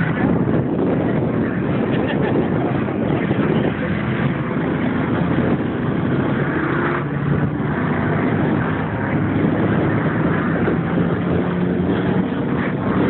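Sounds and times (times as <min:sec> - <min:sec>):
rattle and wind noise: 0:00.0 - 0:13.0
vehicle engine running: 0:00.0 - 0:13.0.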